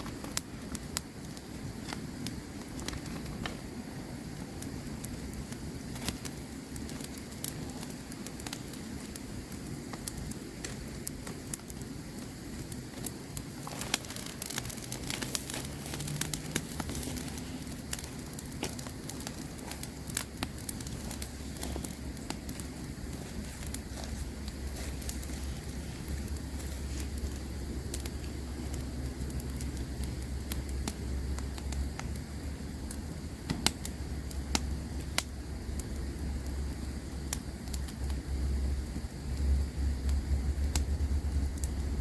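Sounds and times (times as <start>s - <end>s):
campfire crackling: 0.0s - 42.0s.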